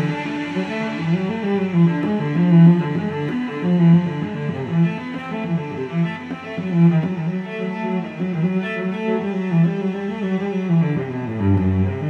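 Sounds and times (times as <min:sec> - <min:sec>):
bowed strings background music: 0:00.0 - 0:12.0.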